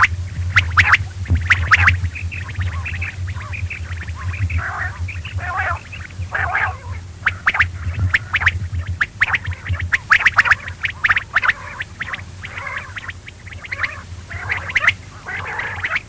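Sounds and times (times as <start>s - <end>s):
low electrical hum: 0.0s - 16.0s
quail calling: 0.0s - 16.0s.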